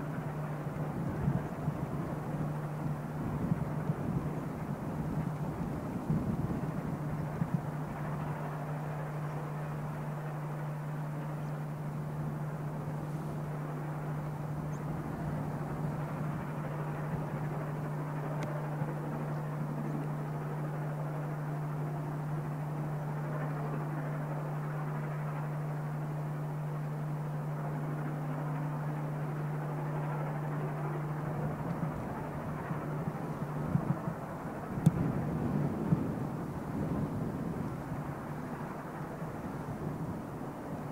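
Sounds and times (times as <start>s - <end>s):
constant low hum: 0.0s - 40.9s
distant steam locomotive rumble: 0.0s - 40.9s.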